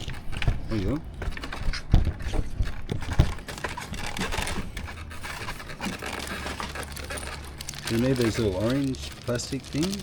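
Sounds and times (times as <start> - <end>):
plastic parts rustling and scraping: 0.0 - 10.0.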